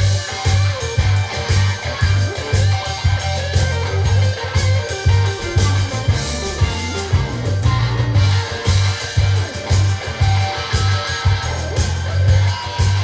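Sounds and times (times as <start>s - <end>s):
pulsing bass line: 0.0s - 13.0s
rock music over loudspeakers: 0.0s - 13.0s.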